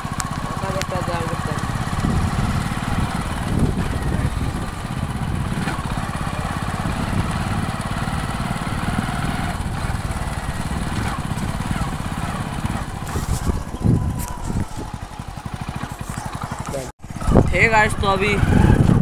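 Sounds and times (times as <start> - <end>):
wind rushing over microphone: 0.0 - 16.2, 17.0 - 19.0
small vehicle engine chugging: 0.0 - 19.0.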